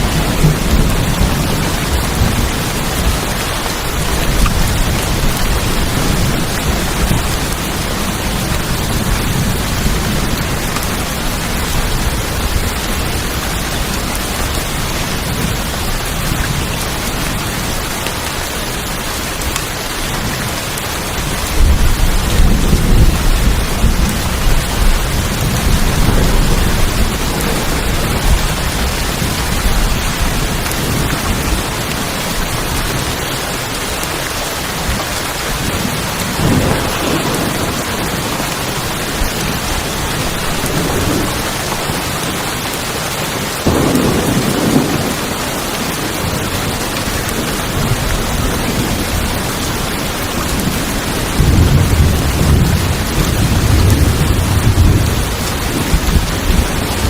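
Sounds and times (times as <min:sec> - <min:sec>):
thunder rumbling: 0:00.0 - 0:17.8, 0:21.1 - 0:33.2, 0:34.8 - 0:42.7, 0:43.4 - 0:57.0
rain on a tin roof: 0:00.0 - 0:57.0.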